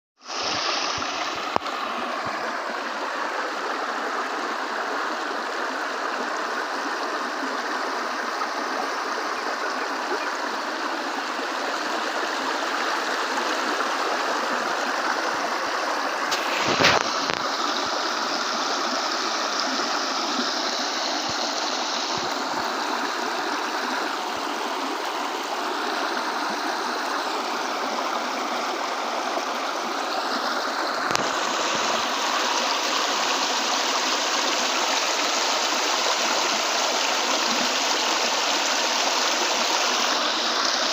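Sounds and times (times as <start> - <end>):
river rushing: 0.2 - 40.9.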